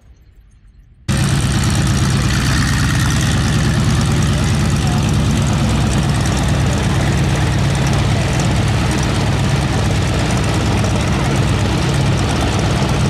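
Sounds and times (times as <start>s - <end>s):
biplane radial engine and propeller: 1.0s - 13.0s.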